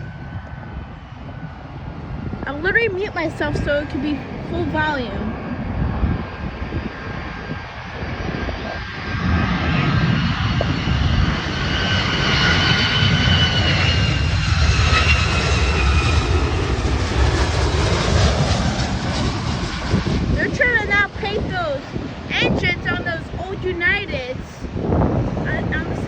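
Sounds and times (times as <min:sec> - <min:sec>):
engine fan high whine: 0:00.0 - 0:26.0
jet engine rumble: 0:00.0 - 0:26.0.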